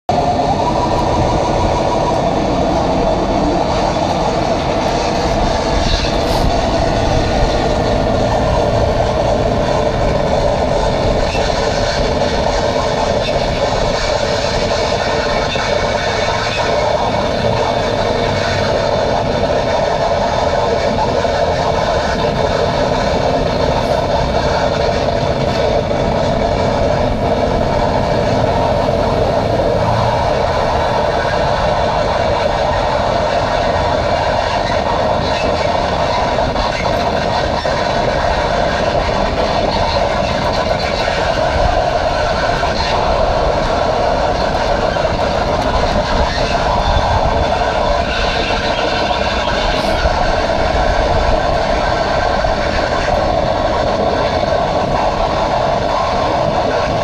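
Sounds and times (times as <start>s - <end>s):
distorted electronic noise music: 0.1s - 57.0s.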